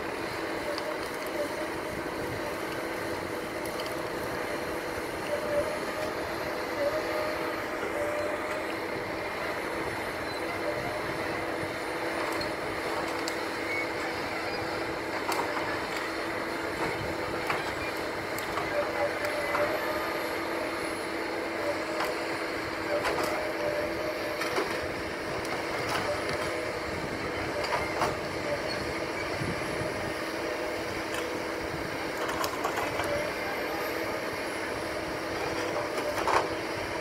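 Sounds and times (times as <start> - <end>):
harvester engine hum: 0.0 - 37.0.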